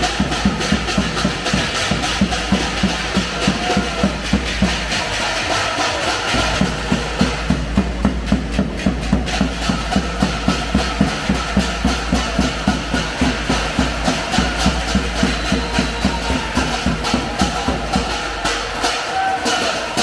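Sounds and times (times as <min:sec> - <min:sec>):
bass drum beating steadily: 0:00.0 - 0:19.3
music: 0:00.0 - 0:20.0.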